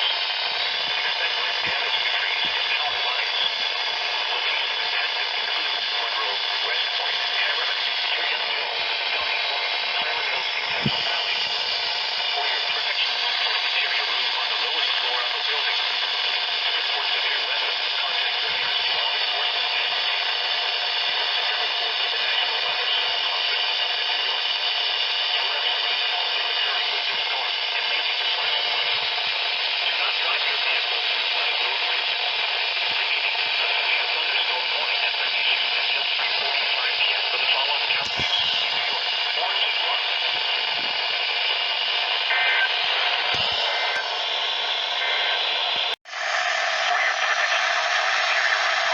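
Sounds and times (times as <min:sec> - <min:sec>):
radio static hiss: 0:00.0 - 0:48.9.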